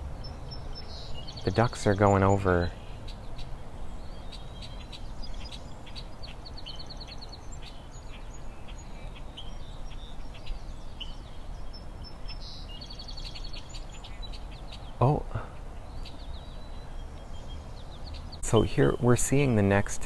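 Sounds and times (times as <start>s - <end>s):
blackbirds calling: 0.0s - 20.0s.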